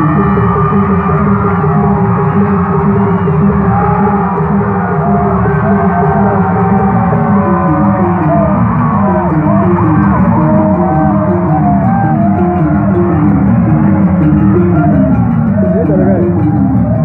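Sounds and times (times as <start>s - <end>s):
crowd voices: 0.0s - 17.0s
live music ringing melody: 0.0s - 17.0s.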